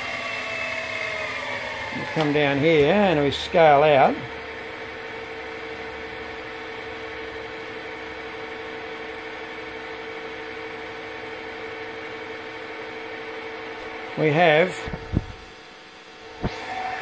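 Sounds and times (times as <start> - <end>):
milling machine hum and whine: 0.0 - 17.0.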